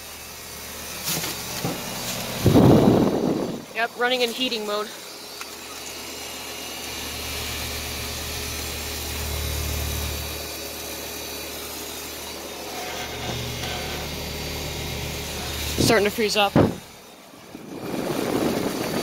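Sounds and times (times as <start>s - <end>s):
compressor humming: 0.0s - 19.0s
fan air rushing: 0.0s - 19.0s.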